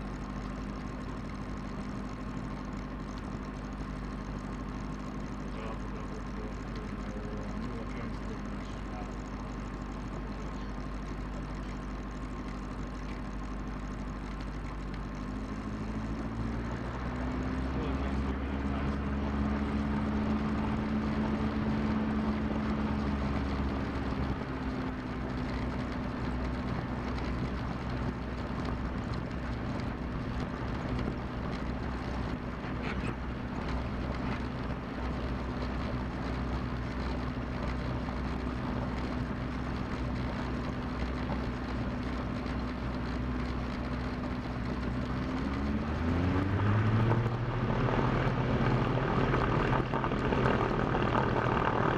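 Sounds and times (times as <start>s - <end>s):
aircraft engine and propeller: 0.0s - 51.9s.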